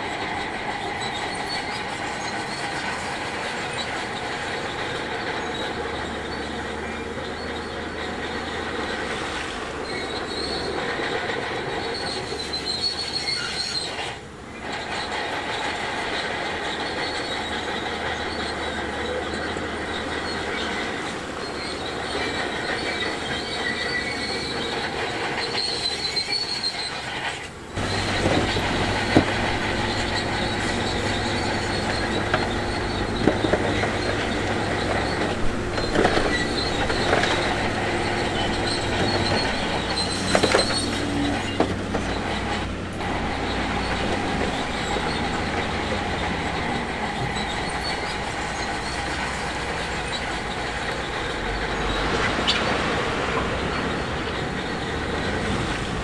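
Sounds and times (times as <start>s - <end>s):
bulldozer diesel engine: 0.0s - 56.0s
steel tracks squealing and clanking: 0.0s - 56.0s.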